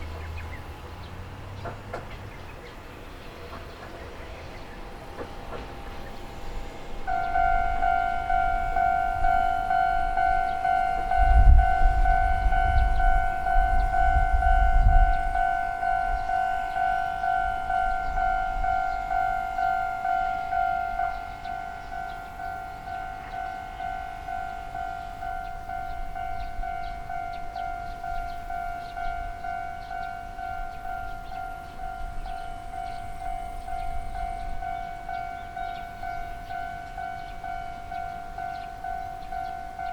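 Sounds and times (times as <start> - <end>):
level crossing warning bell: 2.5 - 39.9.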